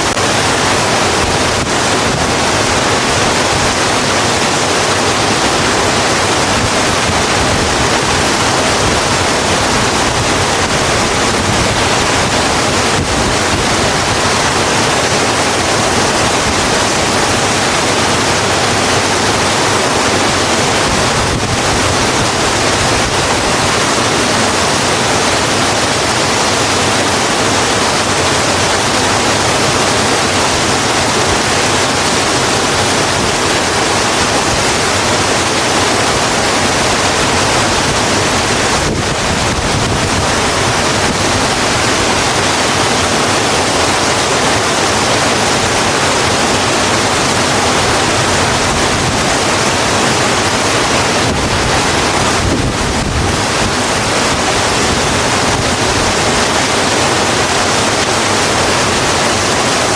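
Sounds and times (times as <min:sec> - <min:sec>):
heavy rain on a road: 0:00.0 - 0:59.9.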